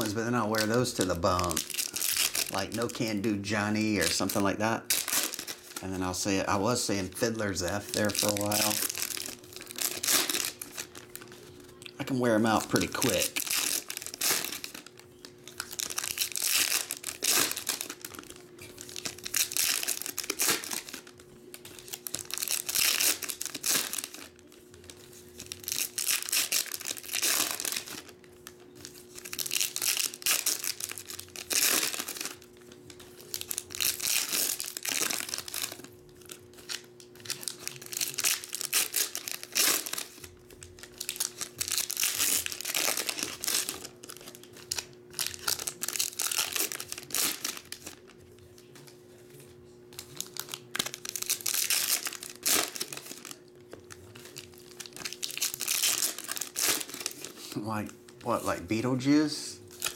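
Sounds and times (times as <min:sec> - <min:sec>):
foil wrappers crinkling and tearing: 0:00.0 - 0:59.9.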